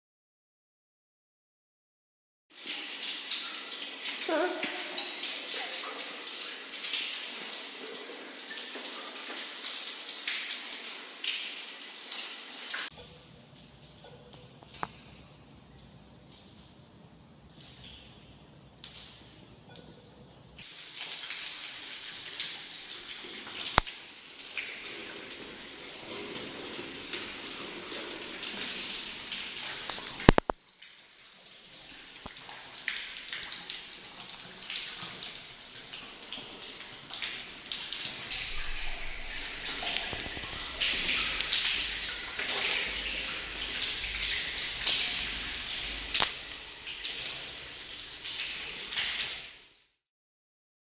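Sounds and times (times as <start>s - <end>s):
rain falling and splashing: 2.5s - 16.6s, 20.5s - 49.7s.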